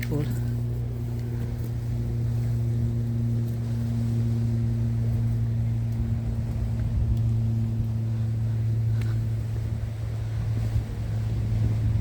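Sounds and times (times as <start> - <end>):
low mechanical hum with rumble: 0.0 - 12.0.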